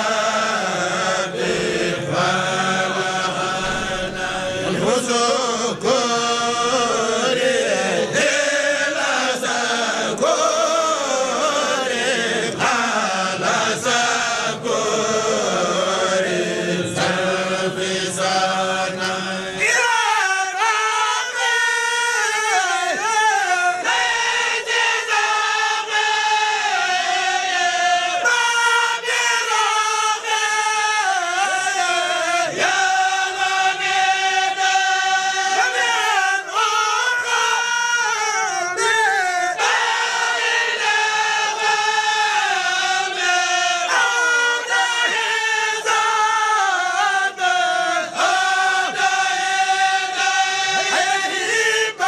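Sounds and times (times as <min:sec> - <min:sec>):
group chanting in unison: 0:00.0 - 0:52.0.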